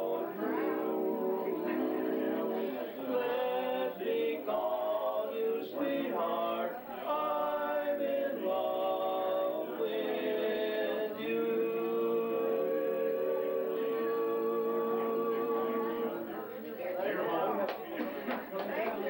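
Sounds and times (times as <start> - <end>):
group of voices singing: 0.0 - 18.2.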